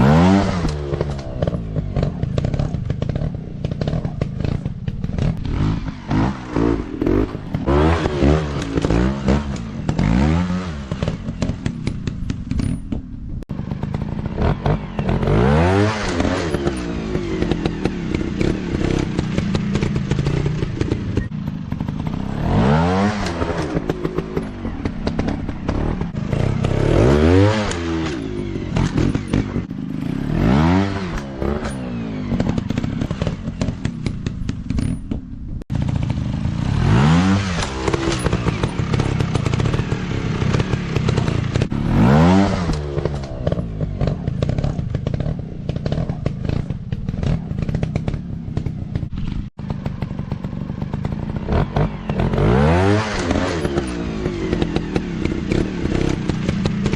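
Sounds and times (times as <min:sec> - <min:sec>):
dirt bike engine revving: 0:00.0 - 0:12.9, 0:13.5 - 0:56.9.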